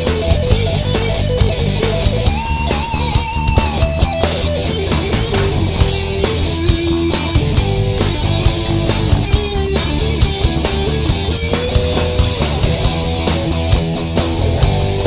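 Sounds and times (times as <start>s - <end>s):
drums: 0.0s - 15.0s
electric guitar melody: 0.0s - 15.0s.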